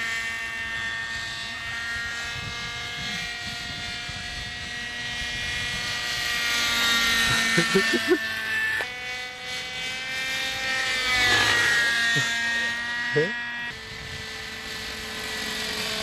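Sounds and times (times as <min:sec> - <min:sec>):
model helicopter engine whine: 0:00.0 - 0:16.0.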